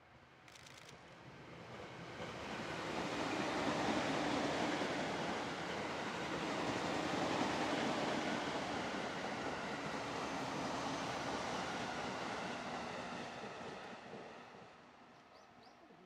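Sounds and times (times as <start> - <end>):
electric train passing: 1.0 - 15.7.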